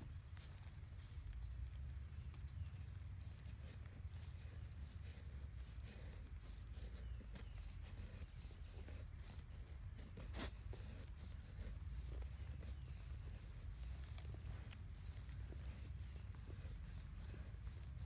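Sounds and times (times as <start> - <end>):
knife shaving wood: 0.0 - 18.0.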